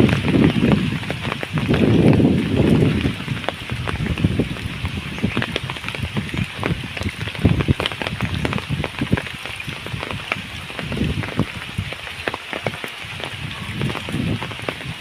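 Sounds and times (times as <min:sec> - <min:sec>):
rain falling on water: 0:00.0 - 0:15.0.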